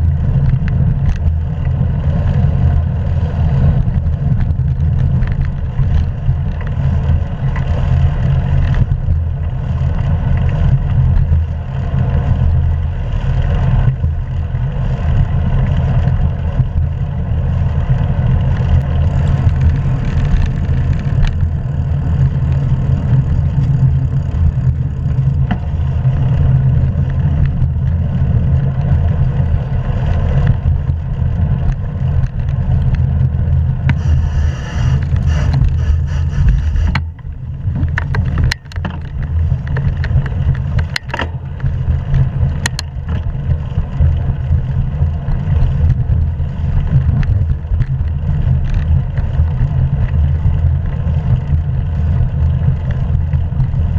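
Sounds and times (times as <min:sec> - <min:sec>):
wind and road noise: 0:00.0 - 0:53.9.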